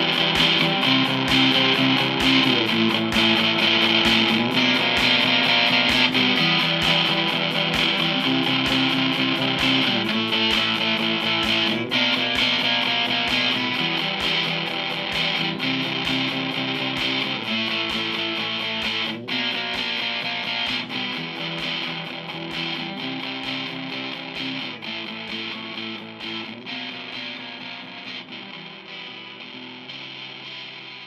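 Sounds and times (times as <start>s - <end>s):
instrumental rock music: 0.0s - 31.0s.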